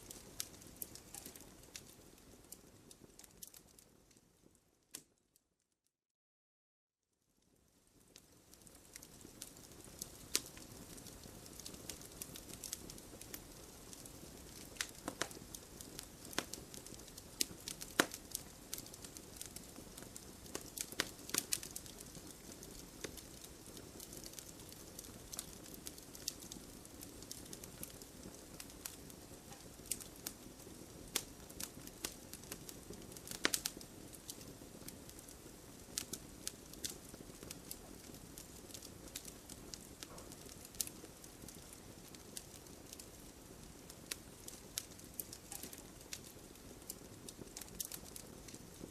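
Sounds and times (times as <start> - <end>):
campfire crackling: 0.0 - 4.5, 7.5 - 48.9.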